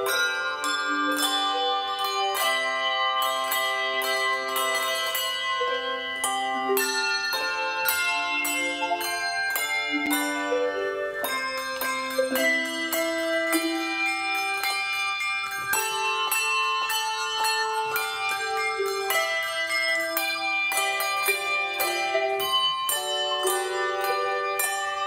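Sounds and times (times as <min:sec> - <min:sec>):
handbell choir playing: 0:00.0 - 0:25.0.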